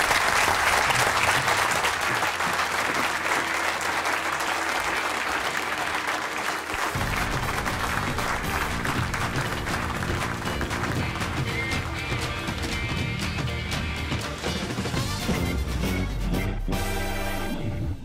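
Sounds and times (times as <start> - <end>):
audience applauding: 0.0 - 14.7
theme music with beat: 2.1 - 18.0.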